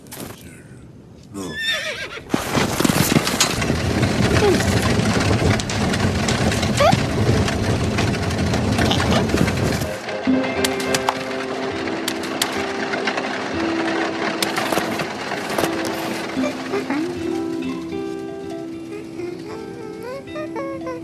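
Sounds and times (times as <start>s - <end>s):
wooden cart wheels rattling: 1.9s - 21.0s.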